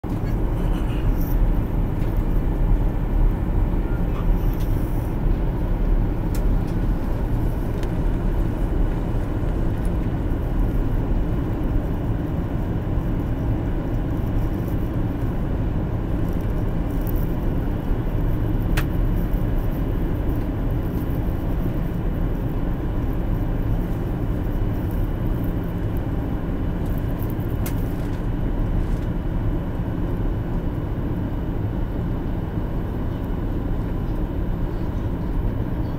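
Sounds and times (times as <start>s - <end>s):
faint steady whine: 0.0s - 35.9s
jet cabin engine rumble: 0.0s - 35.9s.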